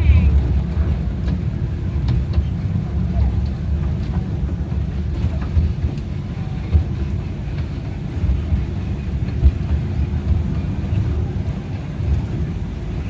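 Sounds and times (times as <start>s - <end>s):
small train rumbling on track: 0.0s - 13.0s.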